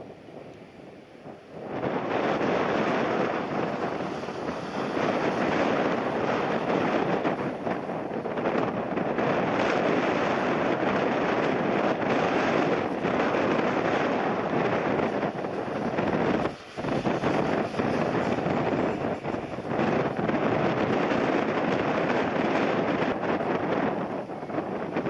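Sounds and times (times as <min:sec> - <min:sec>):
jet engine roar: 0:00.0 - 0:25.0
wind buffeting microphone: 0:00.0 - 0:25.0.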